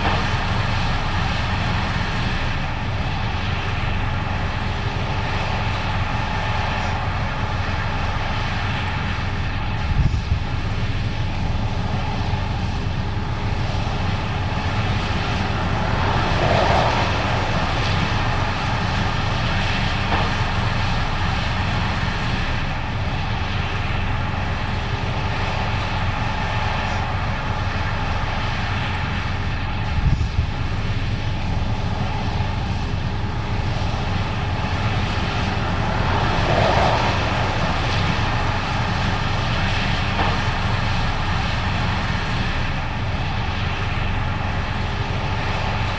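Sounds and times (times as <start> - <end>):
combine harvester mechanical drone: 0.0 - 45.9
engine hum: 0.0 - 45.9.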